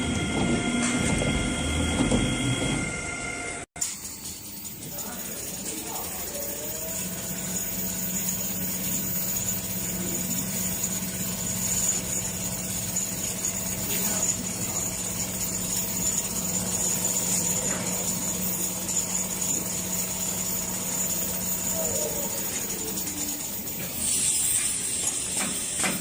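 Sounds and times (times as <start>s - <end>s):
sewing machine hum and whine: 0.0s - 26.0s.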